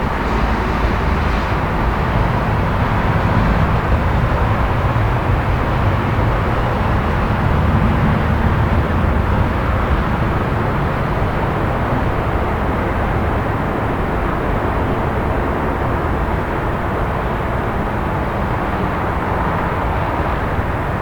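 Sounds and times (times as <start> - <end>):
distant city traffic drone: 0.0 - 21.0.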